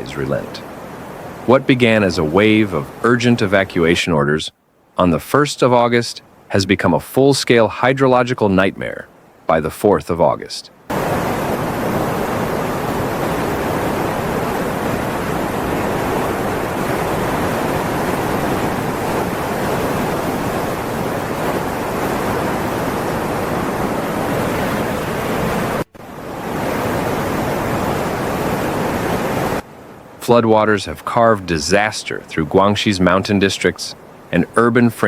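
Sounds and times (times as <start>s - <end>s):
rushing floodwater: 0.0s - 35.0s.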